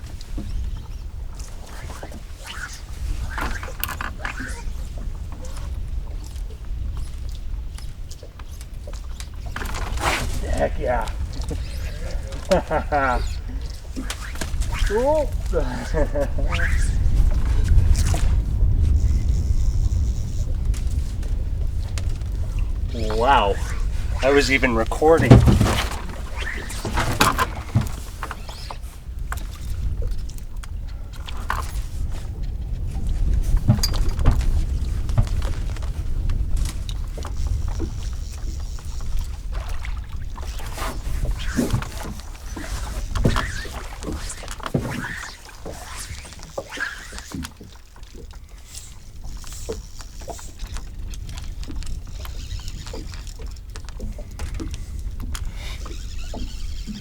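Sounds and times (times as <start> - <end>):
light knocks and clicks on boat: 0.0 - 57.0.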